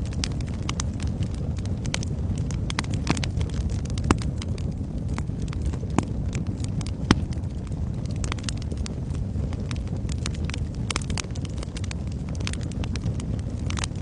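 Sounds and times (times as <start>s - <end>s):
fire crackling and popping: 0.0s - 14.0s
fire flames rumbling: 0.0s - 14.0s.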